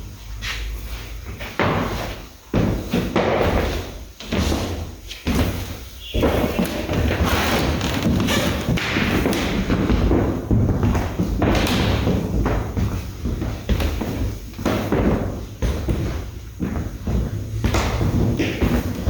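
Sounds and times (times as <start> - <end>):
knocks and thumps: 1.5 - 19.0.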